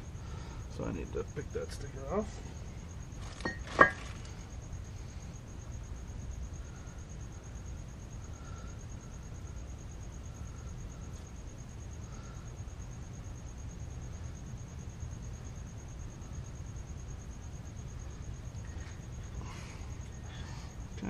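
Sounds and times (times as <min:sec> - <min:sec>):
crickets chirping: 0:00.0 - 0:21.0
low background rumble: 0:00.0 - 0:21.0.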